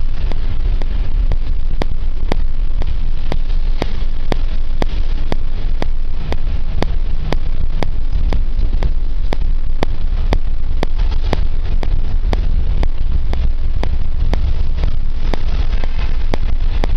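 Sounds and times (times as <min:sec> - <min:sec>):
sharp evenly spaced ticks: 0:00.0 - 0:16.9
vehicle rumble: 0:00.0 - 0:16.9
wind buffeting microphone: 0:00.0 - 0:16.9.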